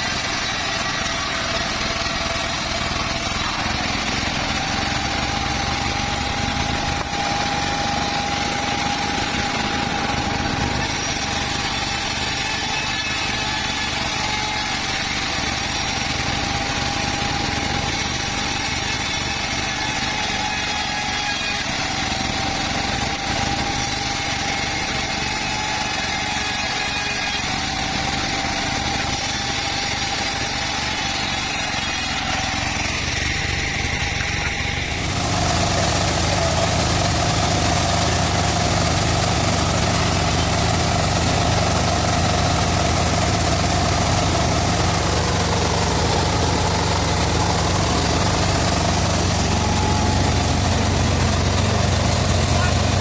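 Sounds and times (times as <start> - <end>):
band saw whine: 0.0 - 53.0.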